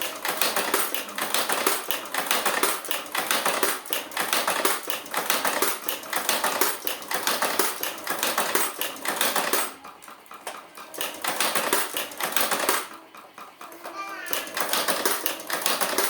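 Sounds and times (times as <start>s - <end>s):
fast mechanical clicking and rattling: 0.0s - 16.0s.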